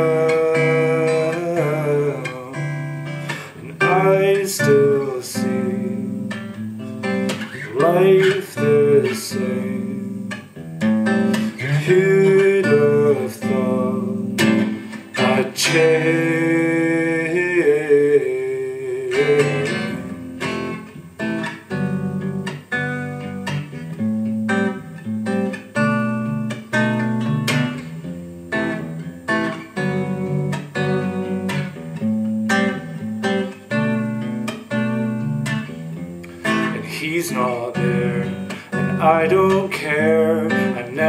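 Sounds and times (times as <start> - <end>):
clean electric guitar picking: 0.0 - 41.0.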